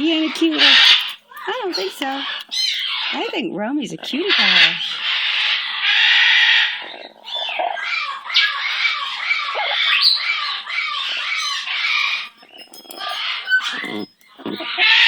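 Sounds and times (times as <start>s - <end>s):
parrot chattering: 0.0s - 3.3s, 4.2s - 15.0s
parrot squawking: 0.0s - 3.3s, 4.2s - 15.0s.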